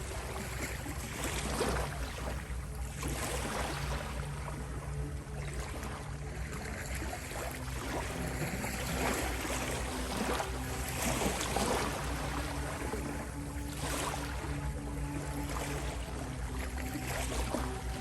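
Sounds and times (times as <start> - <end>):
low synth drone: 0.0 - 18.0
ocean waves washing in: 0.0 - 18.0.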